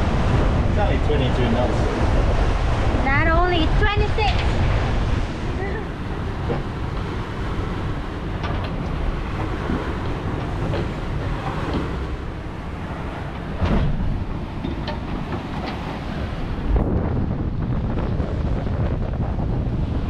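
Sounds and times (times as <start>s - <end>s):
deep rumble: 0.0s - 20.0s
rush of wind and water: 0.0s - 20.0s.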